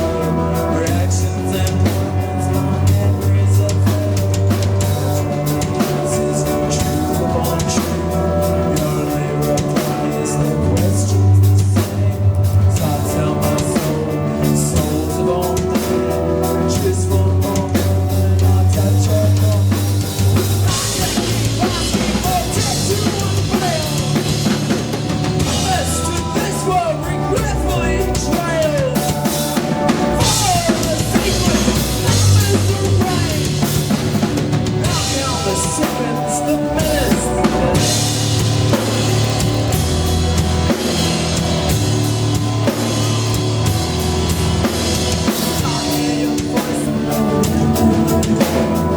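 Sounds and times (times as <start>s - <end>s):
drum kit: 0.0s - 48.9s
heavy bass line: 0.0s - 48.9s
sliding pitched lines: 0.0s - 48.9s
sustained keyboard notes: 0.0s - 48.9s.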